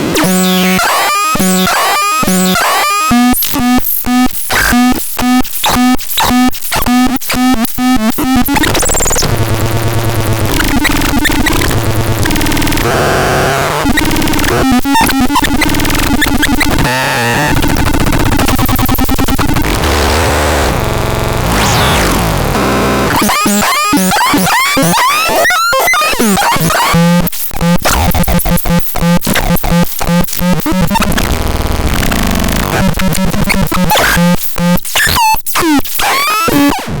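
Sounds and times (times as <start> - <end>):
harsh glitchy synthesizer noise: 0.0 - 37.0.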